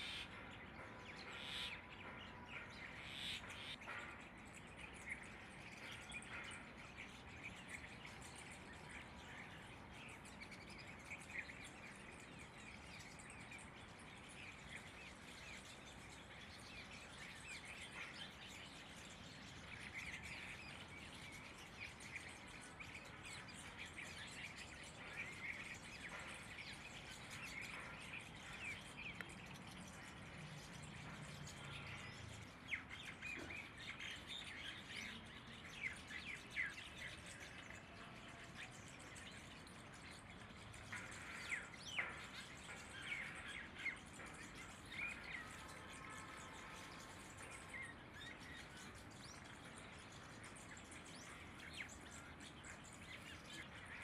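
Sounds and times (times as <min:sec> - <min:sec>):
birds chirping: 0:00.0 - 0:54.0
soft outdoor background: 0:00.0 - 0:54.0.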